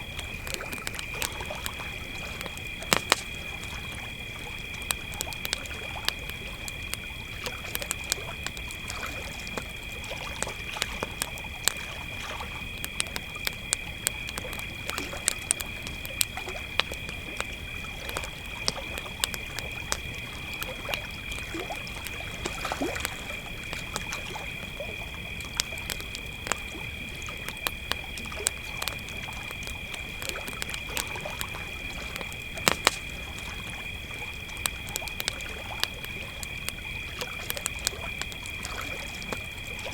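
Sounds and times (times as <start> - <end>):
campfire crackling and popping: 0.0 - 39.9
crickets trilling: 0.0 - 39.9.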